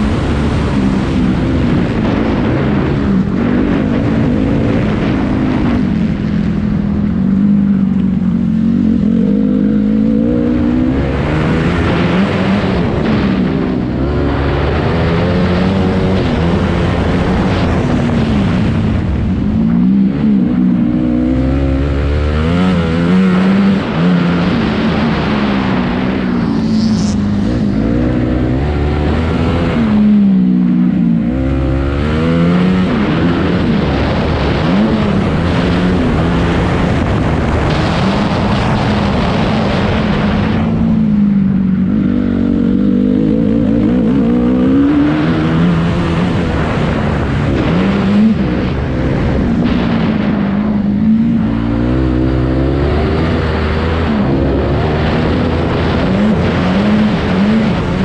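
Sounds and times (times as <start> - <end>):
motocross engine revving: 7.2 - 58.0.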